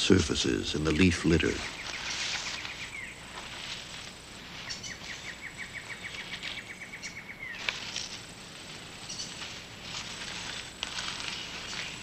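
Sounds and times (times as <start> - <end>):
faint scattered chirps: 1.1 - 12.0.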